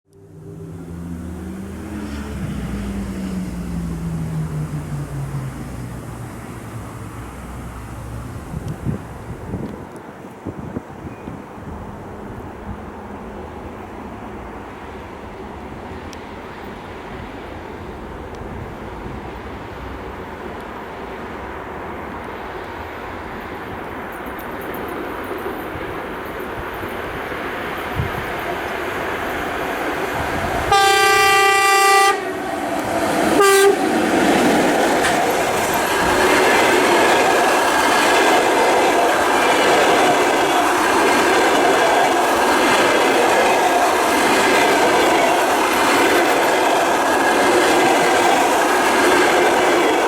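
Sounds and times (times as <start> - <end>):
electric locomotive hum: 0.1 - 50.0
train rumble: 0.1 - 50.0.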